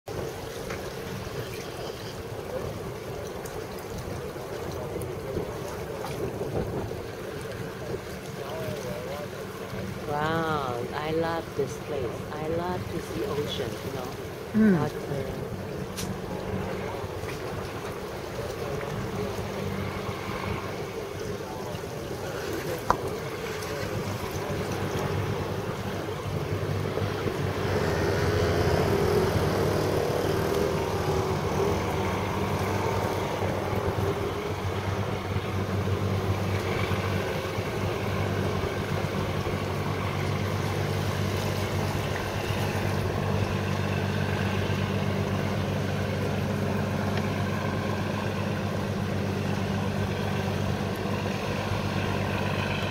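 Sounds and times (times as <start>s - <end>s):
boat engine drone: 0.1s - 52.9s.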